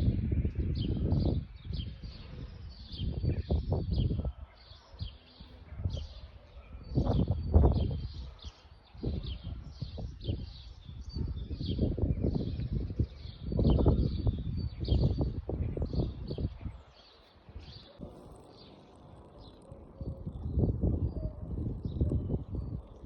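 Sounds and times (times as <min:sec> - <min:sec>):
low rumbling gusts: 0:00.0 - 0:04.4, 0:06.7 - 0:08.3, 0:09.0 - 0:16.9, 0:18.0 - 0:23.0
small birds chirping: 0:00.0 - 0:23.0.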